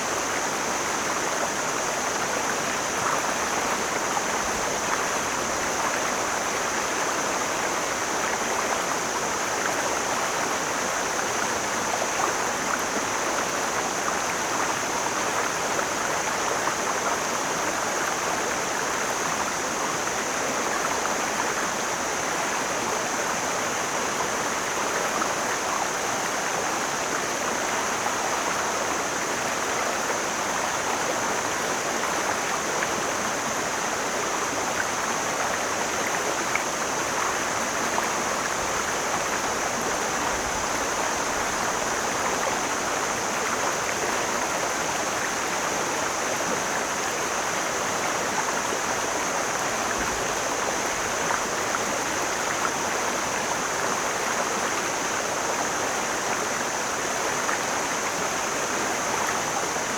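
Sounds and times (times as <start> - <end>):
mountain stream flowing: 0.0 - 59.9.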